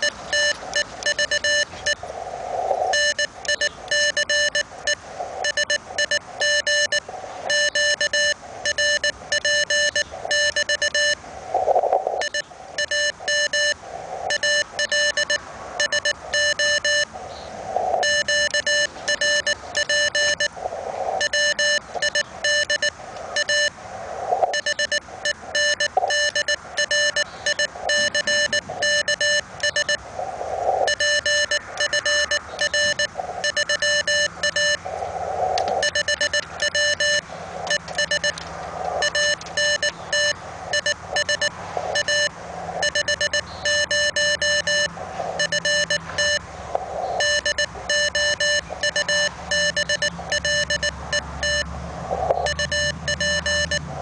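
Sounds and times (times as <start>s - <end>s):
morse code tone: 0.0s - 2.0s, 2.9s - 17.1s, 17.9s - 20.6s, 21.2s - 23.8s, 24.4s - 34.9s, 35.6s - 46.4s, 47.1s - 54.0s
receiver hiss: 0.0s - 54.0s.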